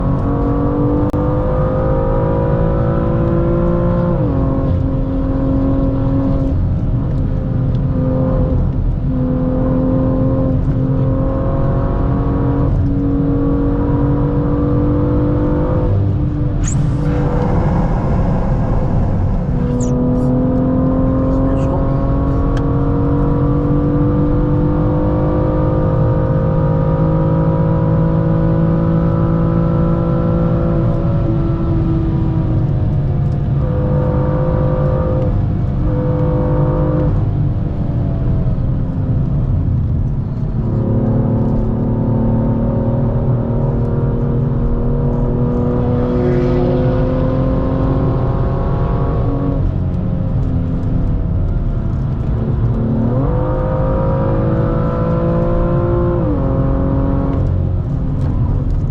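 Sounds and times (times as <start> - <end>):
car engine revving under load: 0.0 - 58.9
road rumble: 0.0 - 58.9
wind noise in car cabin: 0.0 - 58.9.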